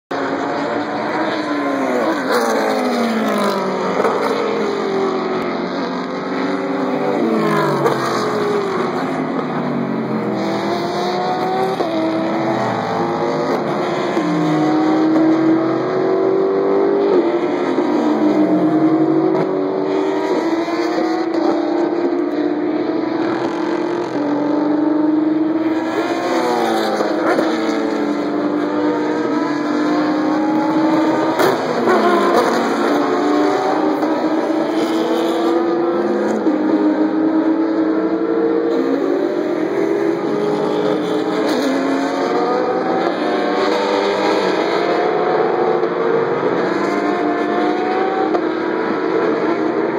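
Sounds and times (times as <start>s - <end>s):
race car engines around circuit: 0.1s - 49.9s
race cars passing at full throttle: 0.1s - 49.9s.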